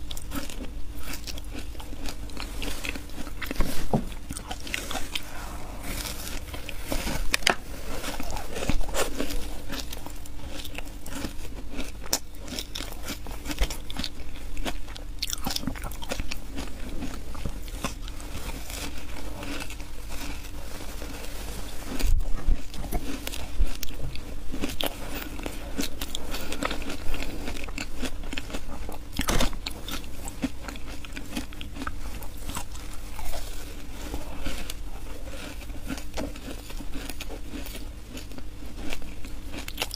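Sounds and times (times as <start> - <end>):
crunchy bites of shaved ice: 0.0 - 39.9.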